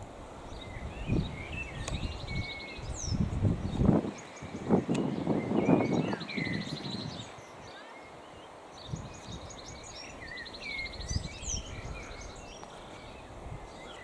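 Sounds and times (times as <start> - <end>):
small birds chirping and trilling: 0.4 - 14.0.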